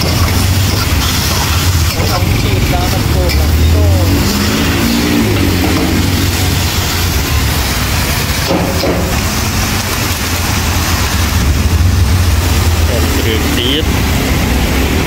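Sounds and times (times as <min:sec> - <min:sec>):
beef sizzling in a wok: 0:00.0 - 0:12.9
metal spatula stir-frying: 0:00.0 - 0:13.4
low rumble: 0:00.0 - 0:14.9.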